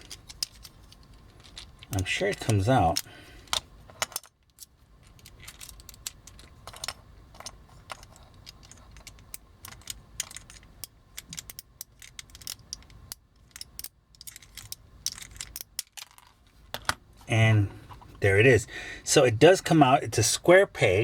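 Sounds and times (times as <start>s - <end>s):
plastic toy parts clicking: 0.0s - 17.0s.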